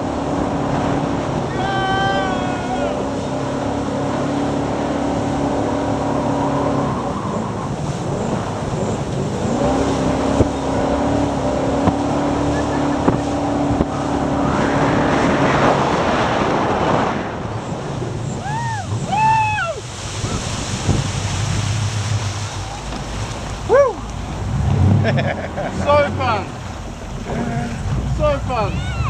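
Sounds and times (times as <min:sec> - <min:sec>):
boat engine running hard: 0:00.0 - 0:29.0
rushing water and wind: 0:00.0 - 0:29.0.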